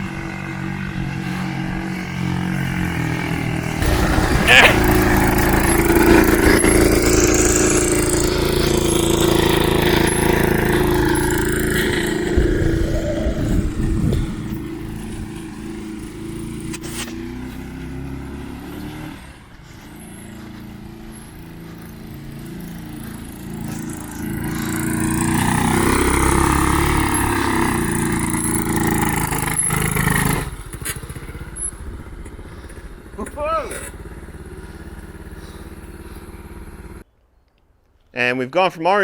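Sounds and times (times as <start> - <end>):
small petrol engine revving: 0.0 - 37.1.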